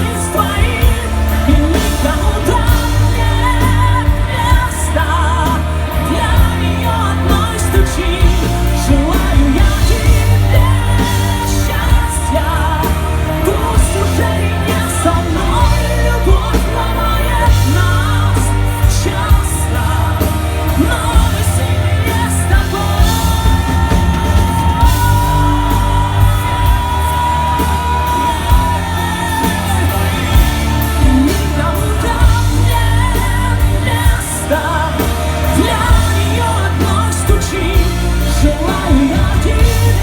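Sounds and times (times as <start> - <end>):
person singing: 0.0 - 40.0
pop-rock band playing: 0.0 - 40.0.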